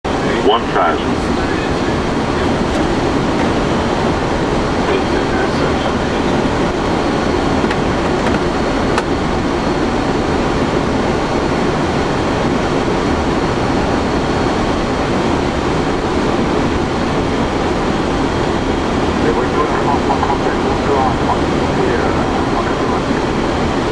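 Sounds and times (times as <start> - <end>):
cockpit rushing rumble: 0.1 - 23.9
faint high whine: 0.1 - 23.9.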